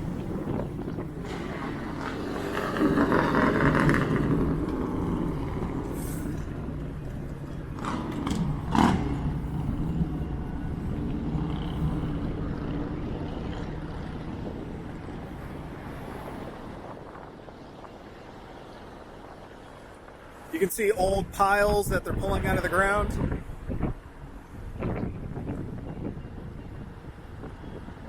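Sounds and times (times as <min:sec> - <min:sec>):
road traffic passing: 0:00.0 - 0:28.0
wind buffeting microphone: 0:00.0 - 0:28.0.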